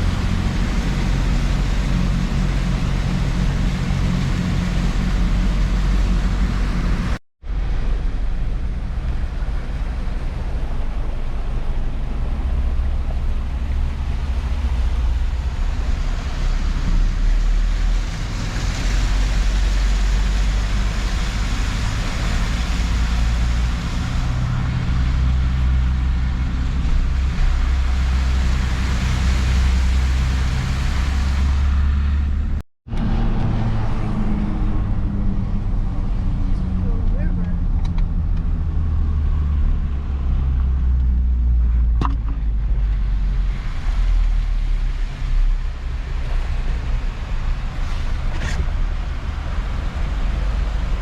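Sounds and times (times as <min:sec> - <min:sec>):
continuous rushing noise: 0:00.0 - 0:51.0
vehicle rumbling: 0:00.0 - 0:51.0.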